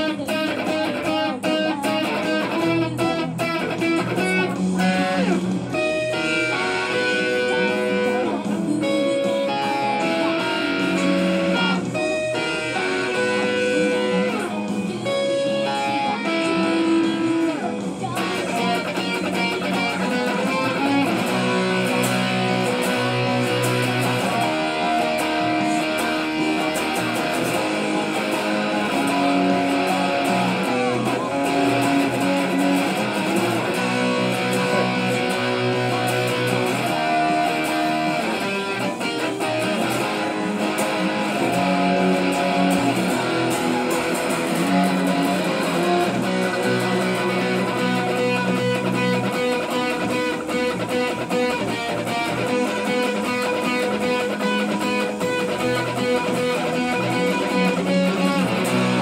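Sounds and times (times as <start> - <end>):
electric guitar: 0.0 - 59.0.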